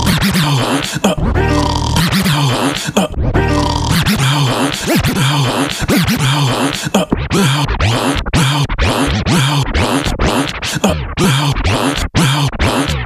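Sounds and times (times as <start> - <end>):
repeating beat: 0.0 - 13.0
vinyl record scratching: 0.0 - 13.0.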